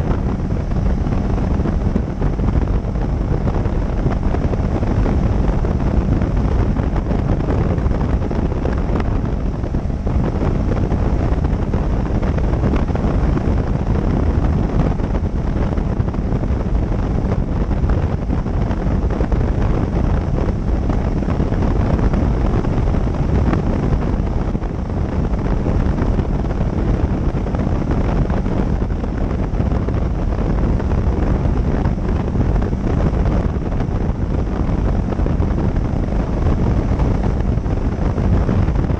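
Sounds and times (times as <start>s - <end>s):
motorcycle engine: 0.0s - 38.9s
road noise: 0.0s - 38.9s
wind buffeting microphone: 0.0s - 38.9s.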